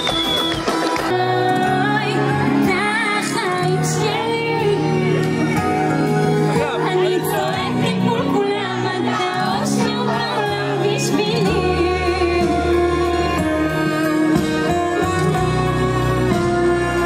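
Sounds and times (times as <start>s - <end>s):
woman singing pop music: 0.6s - 17.0s.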